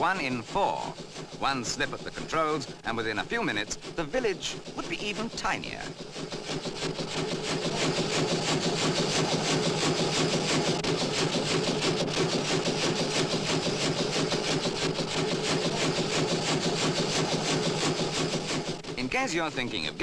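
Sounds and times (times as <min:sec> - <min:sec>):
steam engine chuffing and clanking: 0:00.0 - 0:20.0.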